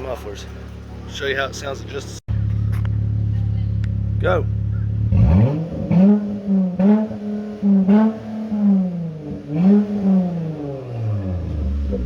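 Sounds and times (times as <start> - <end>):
car exhaust revving: 2.3 - 12.0.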